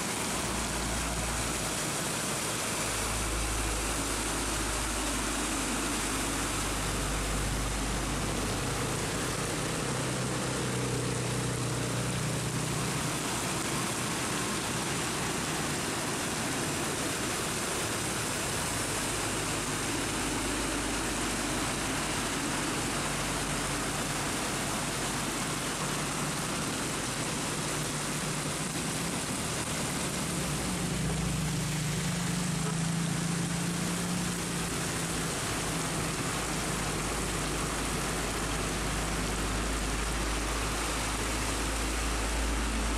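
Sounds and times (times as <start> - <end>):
heavy rain pouring: 0.0 - 42.9
trucks driving through water: 0.0 - 42.9.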